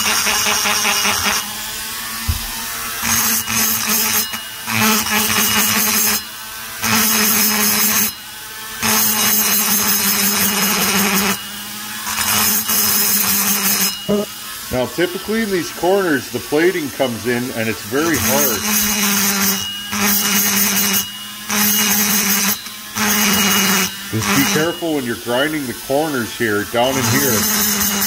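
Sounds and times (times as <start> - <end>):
burr grinding metal: 0.0 - 28.0
rotary tool motor hum: 0.0 - 28.0.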